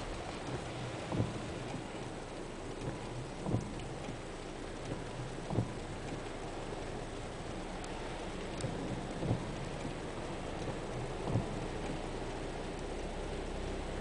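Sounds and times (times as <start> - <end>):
rain on a car: 0.0 - 14.0
windscreen wiper sweeping: 0.0 - 14.0.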